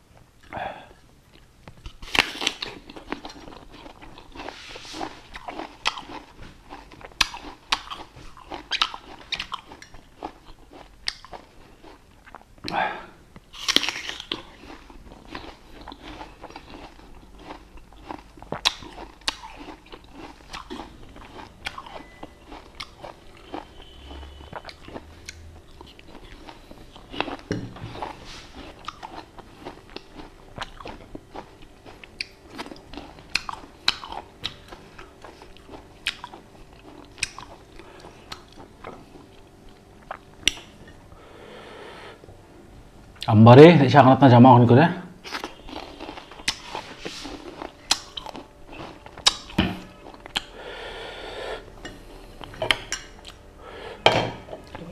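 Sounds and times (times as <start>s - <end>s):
chewing and crunching fruit: 0.0s - 41.2s, 45.1s - 50.7s, 51.6s - 53.6s.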